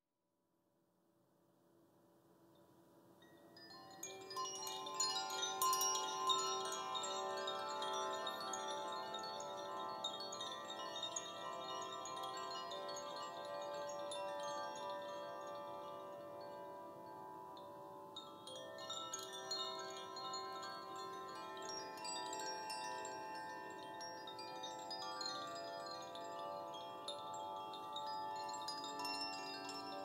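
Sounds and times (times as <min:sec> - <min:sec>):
bamboo chimes tinkling: 0:03.2 - 0:30.0.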